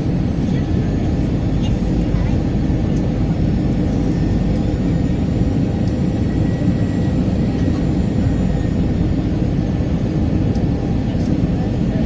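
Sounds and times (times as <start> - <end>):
faint steady engine tones: 0.0 - 12.0
jet engine rumble: 0.0 - 12.0.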